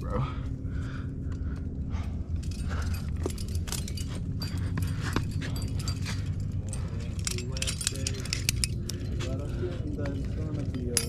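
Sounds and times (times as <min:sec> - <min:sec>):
climbing gear clinking: 0:00.0 - 0:11.0
steady low rumble: 0:00.0 - 0:11.0.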